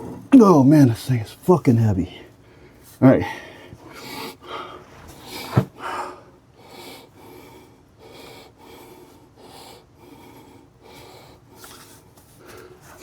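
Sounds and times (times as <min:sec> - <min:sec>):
man breathing hard: 0:02.3 - 0:13.0.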